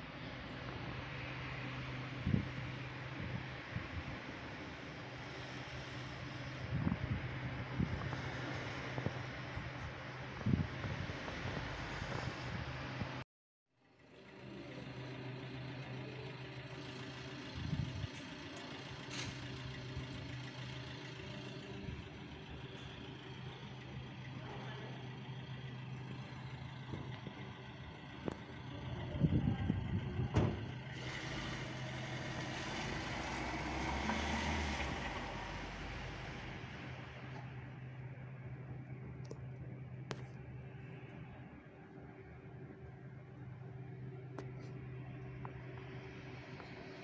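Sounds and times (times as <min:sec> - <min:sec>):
road noise: 0:00.0 - 0:13.2, 0:13.8 - 0:47.0
traffic engine hum: 0:00.0 - 0:13.2, 0:13.8 - 0:47.0.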